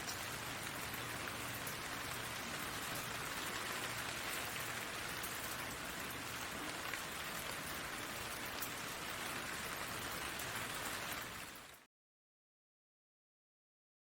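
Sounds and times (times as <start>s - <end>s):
raindrops ticking: 0.0s - 11.8s
rain falling on leaves: 0.0s - 11.9s.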